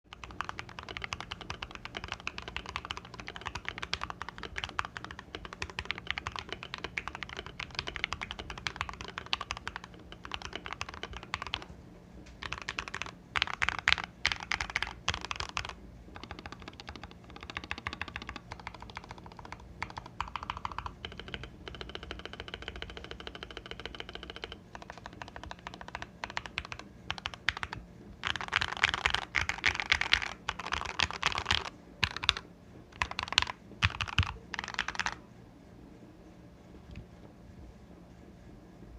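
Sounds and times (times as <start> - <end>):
mechanical keyboard typing: 0.1 - 11.7, 12.4 - 35.2.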